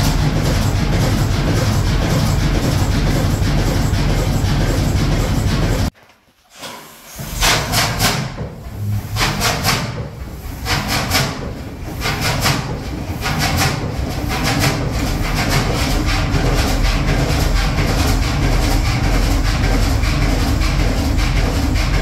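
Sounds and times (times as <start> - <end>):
diesel engine hissing chuffs: 0.0 - 5.9, 6.8 - 22.0
diesel engine low rumble: 0.0 - 5.9, 8.4 - 22.0.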